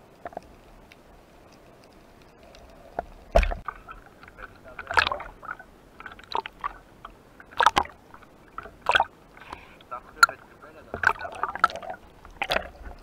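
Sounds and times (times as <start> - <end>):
sea water sloshing and splashing: 2.4 - 13.0.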